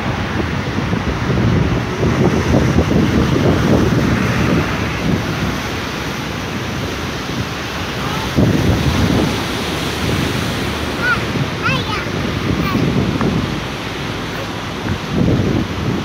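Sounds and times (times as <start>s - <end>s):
waves breaking over rocks: 0.0s - 16.0s
wind buffeting microphone: 0.0s - 16.0s.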